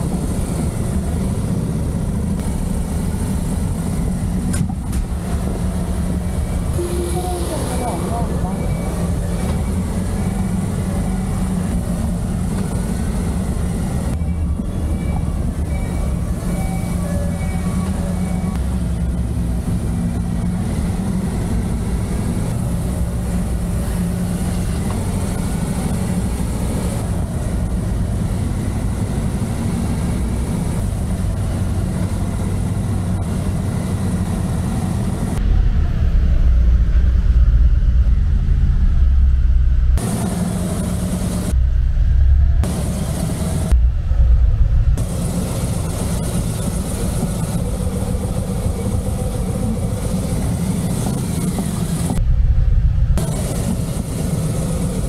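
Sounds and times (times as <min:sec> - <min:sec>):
motorcycle engine low rumble: 0:08.1 - 0:55.0.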